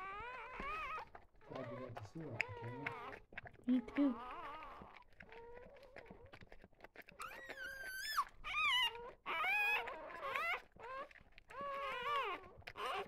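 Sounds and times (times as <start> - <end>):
puppy squealing: 0.0 - 6.2, 7.2 - 13.0.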